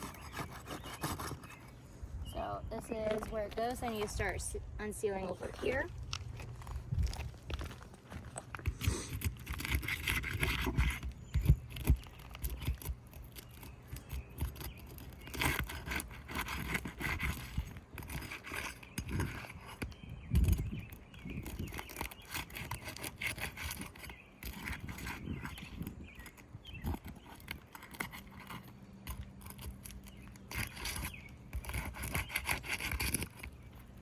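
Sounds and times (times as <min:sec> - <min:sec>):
roof tool scraping under shingles: 0:00.0 - 0:02.1, 0:05.2 - 0:34.0.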